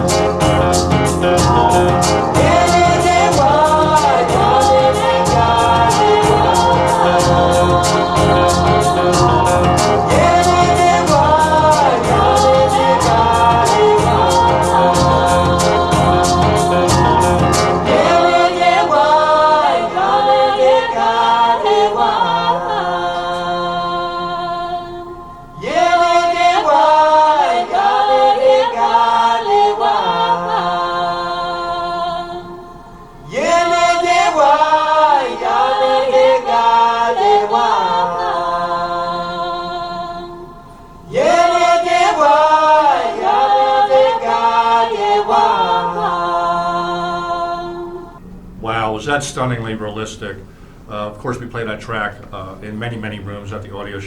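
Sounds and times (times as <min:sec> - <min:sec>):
a cappella choir singing: 0:00.0 - 0:51.7.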